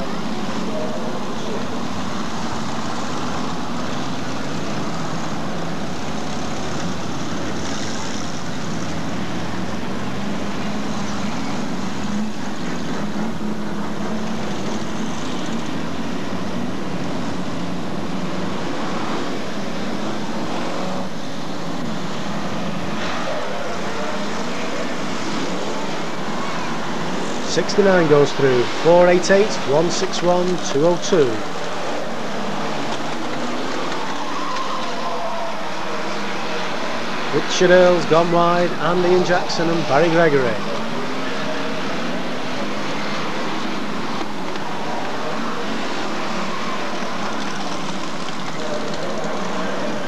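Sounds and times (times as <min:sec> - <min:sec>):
race car engines revving: 0:00.0 - 0:50.0.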